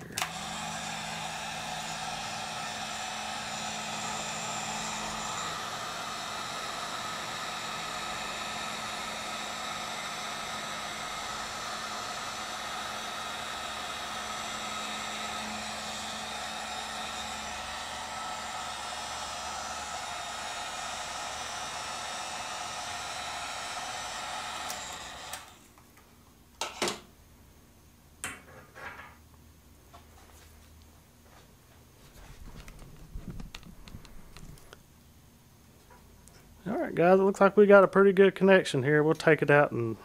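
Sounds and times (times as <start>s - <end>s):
heat gun fan whine: 0.0s - 27.2s, 31.9s - 40.0s.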